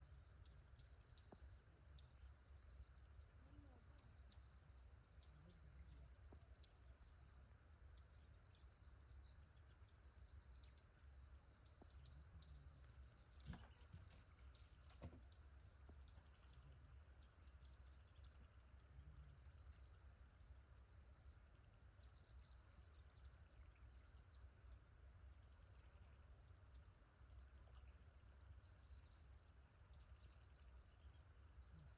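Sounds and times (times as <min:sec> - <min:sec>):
crickets trilling: 0:00.0 - 0:31.9.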